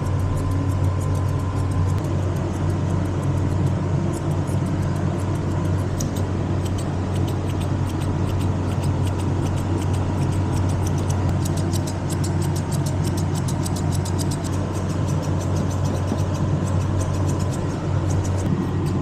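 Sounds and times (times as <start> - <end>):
low machine hum: 0.0 - 19.0
scissors snipping hair: 0.0 - 19.0.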